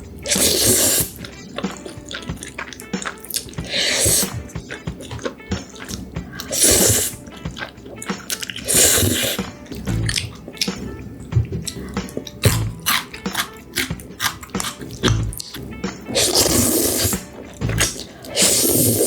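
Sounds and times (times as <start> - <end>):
noodle slurping: 0.0 - 19.0
wet chewing and smacking: 0.0 - 19.0.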